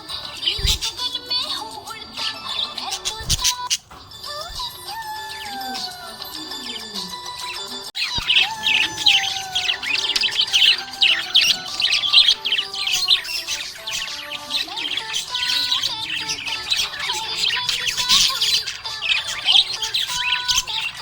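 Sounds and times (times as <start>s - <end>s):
budgies chirping: 0.0s - 21.0s.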